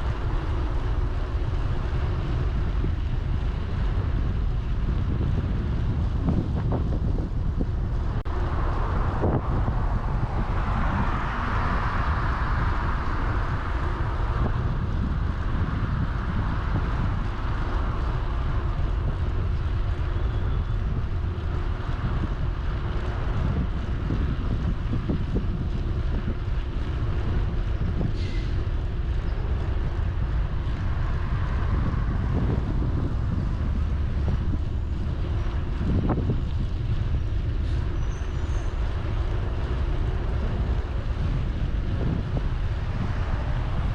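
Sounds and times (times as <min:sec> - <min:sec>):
road and tyre noise: 0:00.0 - 0:43.9
wind rumbling on microphone: 0:00.0 - 0:43.9.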